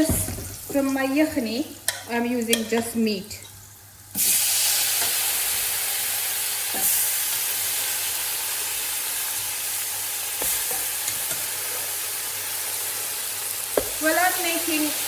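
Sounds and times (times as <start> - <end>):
meat sizzling in hot oil: 0.3 - 15.0.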